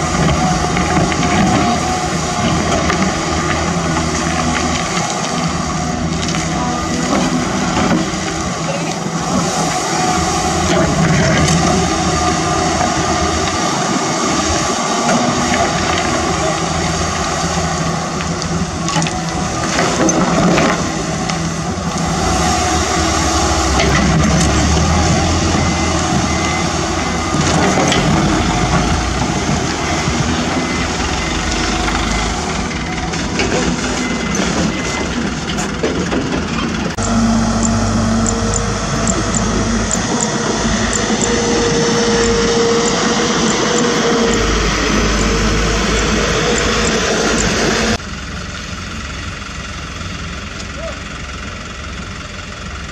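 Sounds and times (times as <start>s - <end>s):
diesel engines of heavy machines: 0.0s - 52.9s
reversing alarm beeping: 0.3s - 35.8s, 37.0s - 48.0s.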